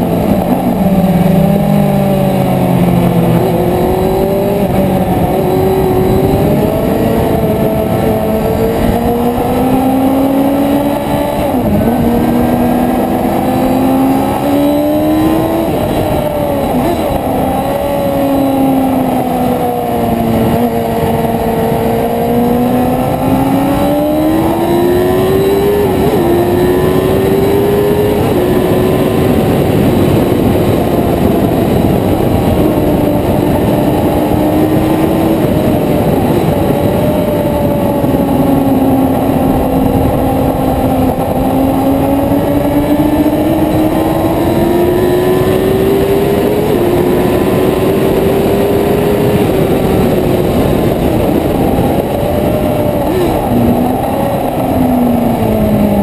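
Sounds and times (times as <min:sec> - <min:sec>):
motorcycle engine at speed: 0:00.0 - 0:56.0
wind rush: 0:00.0 - 0:56.0.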